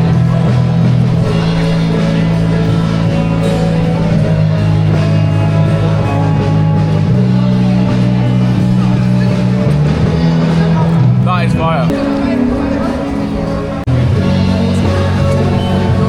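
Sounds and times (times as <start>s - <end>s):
rock guitar music: 0.0s - 16.0s.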